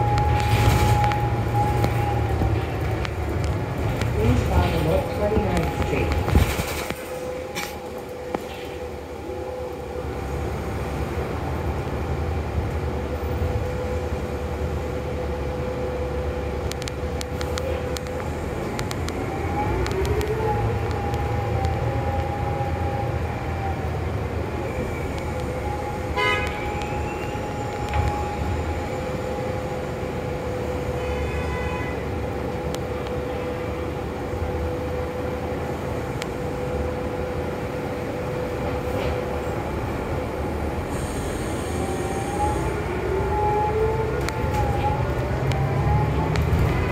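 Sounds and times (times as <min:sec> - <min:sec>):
constant whine: 0:00.0 - 0:31.0, 0:32.0 - 0:46.9
bus engine rumble: 0:00.0 - 0:46.9.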